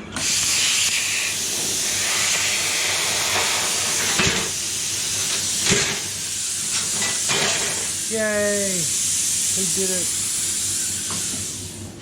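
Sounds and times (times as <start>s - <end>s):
harsh hiss of metalworking: 0.0s - 12.0s.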